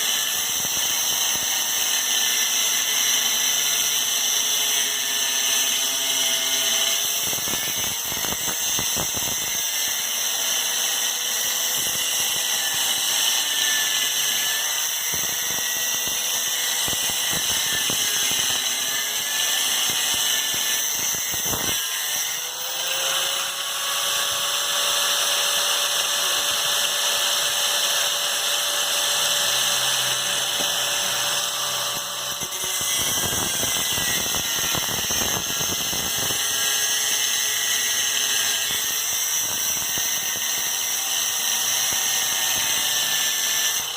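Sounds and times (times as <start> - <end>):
power tool whining on metal: 0.0 - 43.9.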